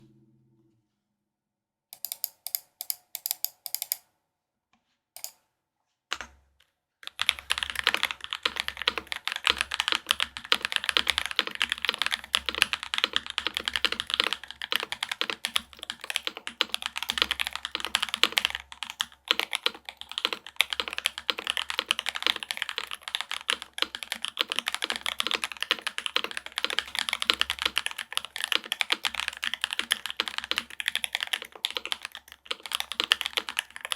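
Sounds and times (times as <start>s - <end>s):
mechanical keyboard typing: 2.0s - 4.0s, 7.0s - 33.9s.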